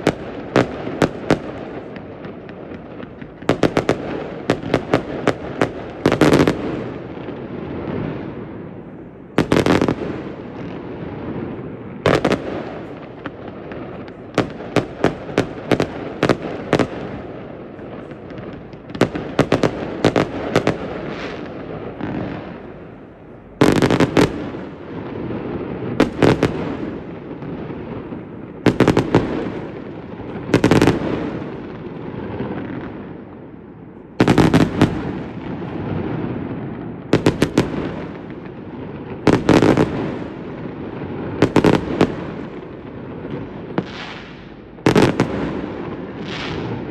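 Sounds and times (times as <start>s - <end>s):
fireworks bangs and crackling: 0.0s - 46.9s
rumble of fireworks bursts: 0.0s - 46.9s.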